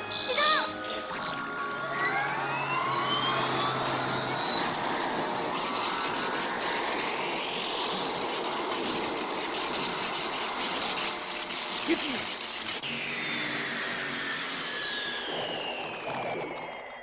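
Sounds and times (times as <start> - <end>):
sci-fi machine rush with whine: 0.0 - 17.0
steady high tones: 0.0 - 17.0.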